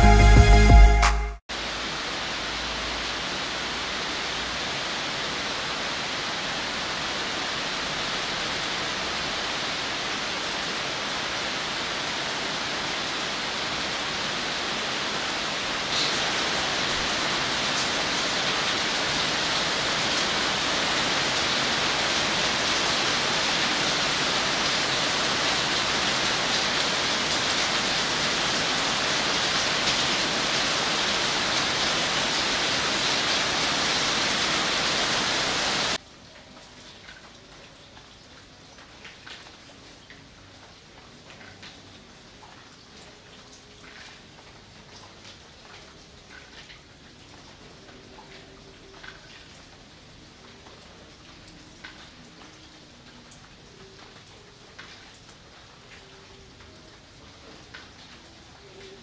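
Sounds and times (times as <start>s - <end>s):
rain falling on leaves: 1.5s - 59.0s.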